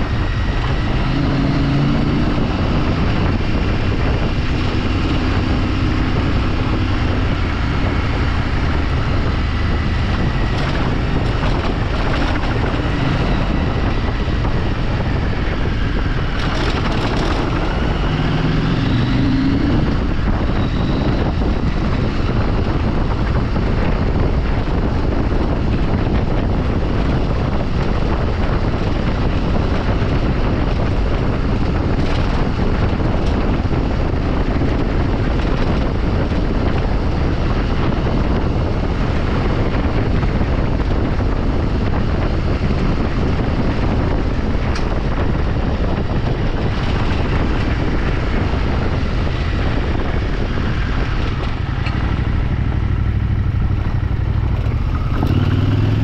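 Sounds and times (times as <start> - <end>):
vehicle engine running: 0.0 - 56.0
wind rushing on microphone: 0.0 - 56.0.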